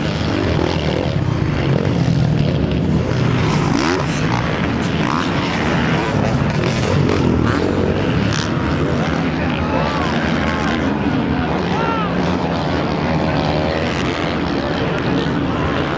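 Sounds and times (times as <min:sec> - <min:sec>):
motocross bike engines revving: 0:00.0 - 0:15.9.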